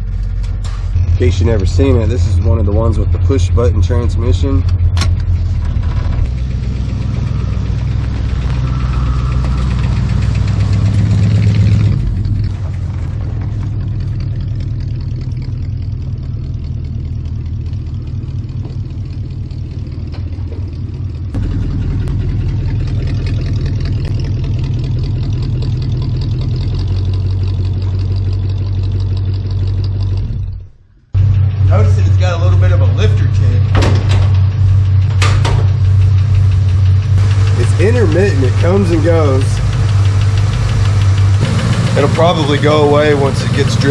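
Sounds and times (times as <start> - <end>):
car engine running: 0.0 - 43.9.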